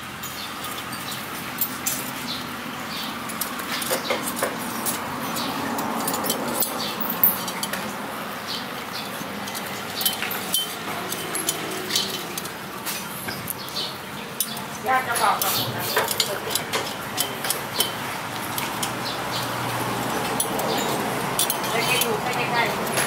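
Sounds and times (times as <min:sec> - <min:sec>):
metal spokes clinking and rattling: 0:00.2 - 0:23.0.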